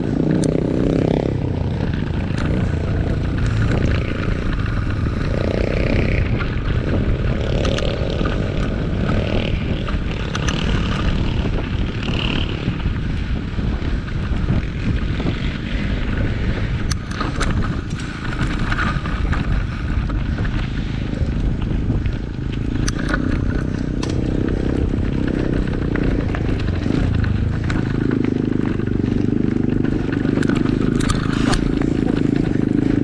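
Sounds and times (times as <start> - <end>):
dense rumble: 0.0 - 33.0
wind buffeting microphone: 0.0 - 33.0.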